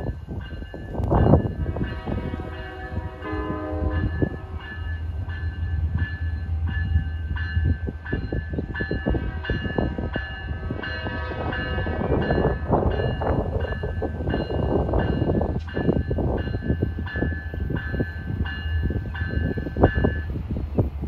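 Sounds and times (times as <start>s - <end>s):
locomotive engine rumble: 0.0s - 21.0s
train wheels rolling on rails: 0.0s - 21.0s.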